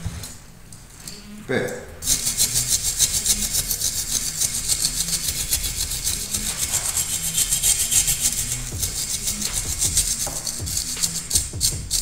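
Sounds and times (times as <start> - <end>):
angle grinder grinding steel: 2.0 - 12.0.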